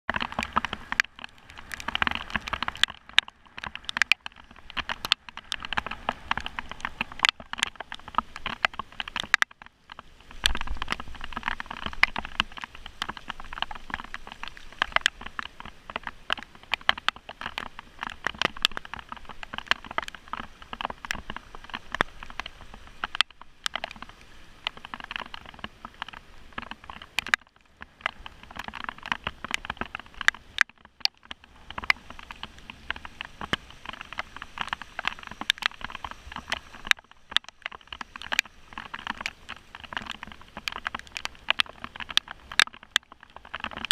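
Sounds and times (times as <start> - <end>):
heavy rain on a car: 0.1 - 43.9.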